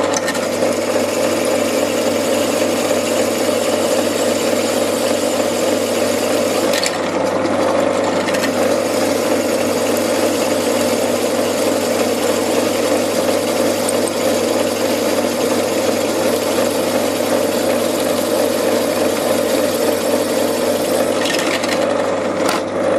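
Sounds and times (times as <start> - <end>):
drill press motor hum: 0.0 - 22.9.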